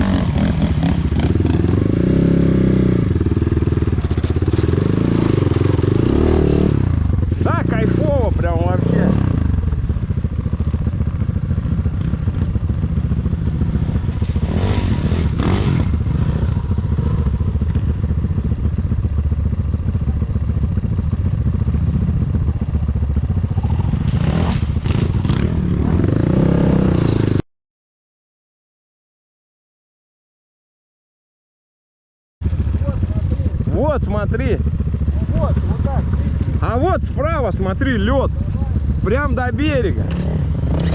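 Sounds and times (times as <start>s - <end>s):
motorcycle engine running: 0.0s - 27.4s, 32.4s - 40.9s.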